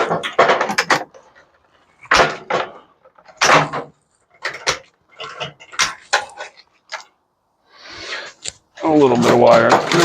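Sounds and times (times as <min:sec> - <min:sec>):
metal casing knocks and scrapes: 0:00.0 - 0:07.1, 0:08.8 - 0:10.0.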